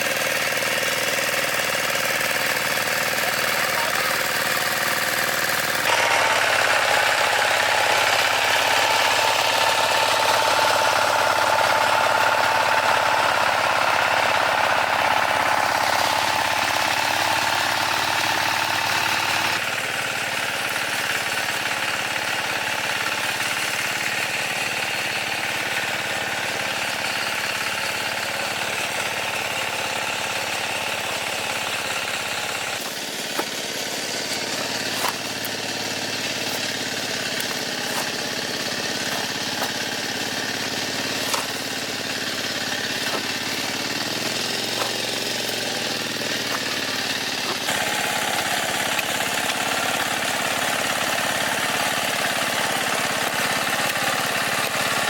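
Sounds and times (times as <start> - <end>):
machine engine running: 0.0 - 55.0.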